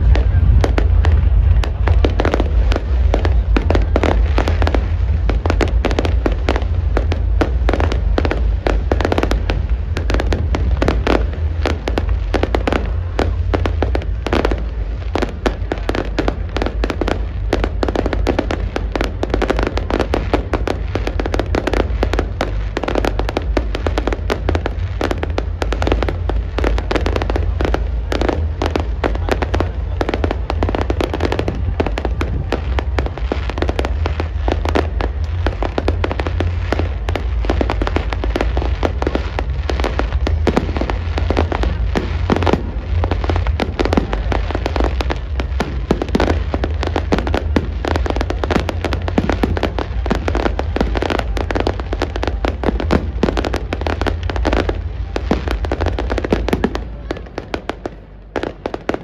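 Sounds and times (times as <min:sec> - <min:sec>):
deep rumble: 0:00.0 - 0:59.0
fireworks bangs and crackles: 0:00.0 - 0:59.0.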